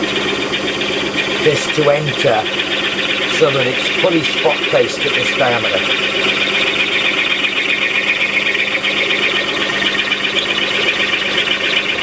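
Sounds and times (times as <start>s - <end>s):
lathe humming: 0.0s - 12.0s.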